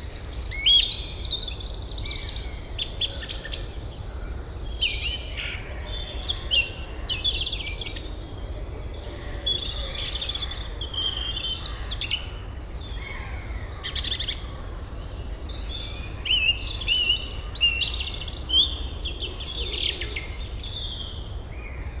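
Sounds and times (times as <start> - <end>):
birds singing and chirping: 0.0 - 22.0.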